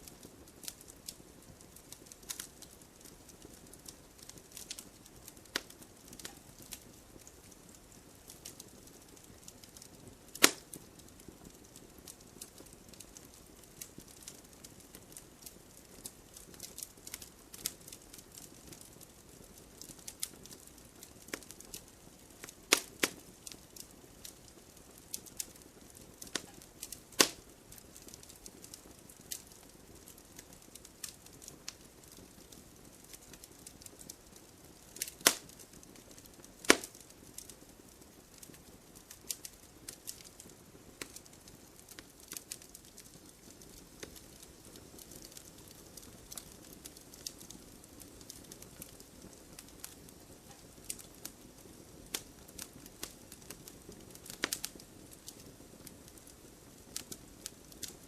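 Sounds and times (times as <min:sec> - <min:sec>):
faint steady hiss: 0:00.0 - 0:58.0
wood fire crackling and popping: 0:00.0 - 0:58.0.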